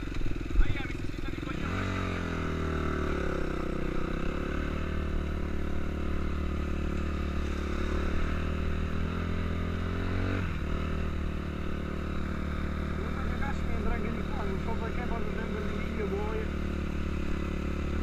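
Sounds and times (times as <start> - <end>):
motocross engine running: 0.0 - 18.0.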